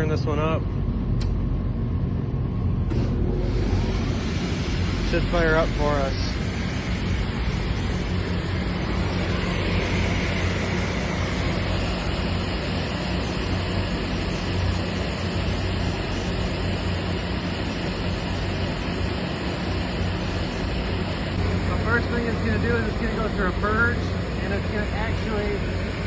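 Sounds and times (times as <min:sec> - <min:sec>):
industrial fans whooshing and humming: 0:00.0 - 0:26.0.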